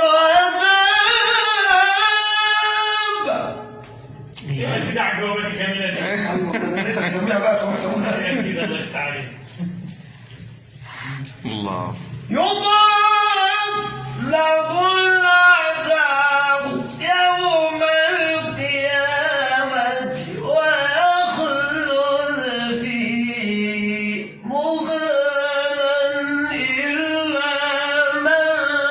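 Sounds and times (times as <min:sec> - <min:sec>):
man reciting melodically: 0:00.0 - 0:28.9.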